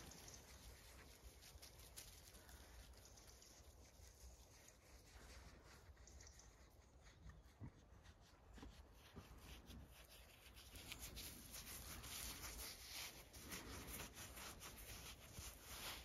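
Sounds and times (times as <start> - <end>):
gloved hand scratching wool: 0.0 - 16.0.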